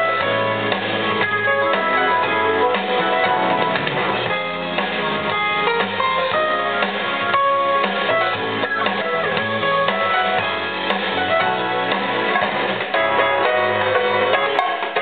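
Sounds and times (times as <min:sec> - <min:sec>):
instrumental music with guitar and drums: 0:00.0 - 0:15.0.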